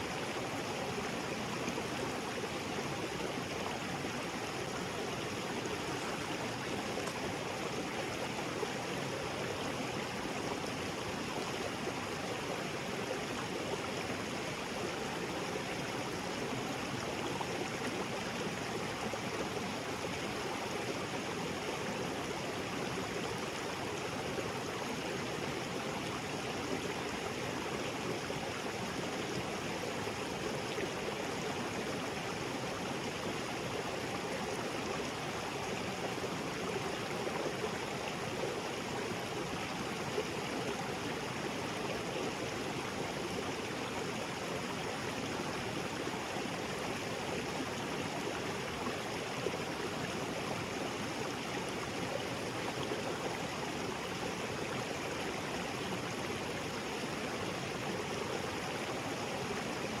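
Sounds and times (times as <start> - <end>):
stream water rushing: 0.0 - 60.0.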